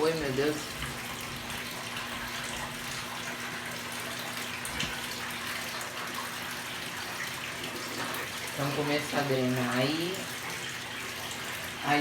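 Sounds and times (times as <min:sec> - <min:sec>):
water rushing in washing machine: 0:00.0 - 0:12.0.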